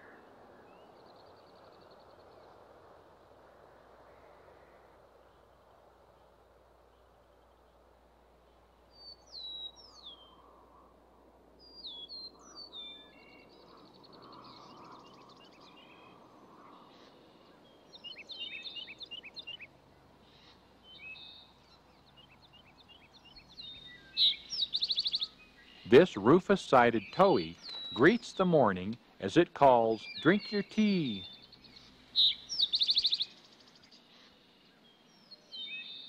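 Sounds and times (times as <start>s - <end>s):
faint steady hiss: 0.0s - 36.0s
songbirds singing: 0.0s - 36.0s.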